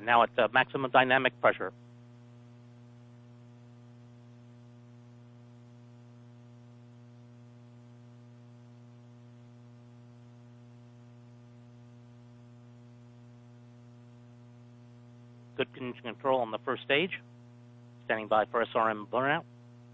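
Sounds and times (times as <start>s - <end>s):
electrical mains hum: 0.0s - 19.9s.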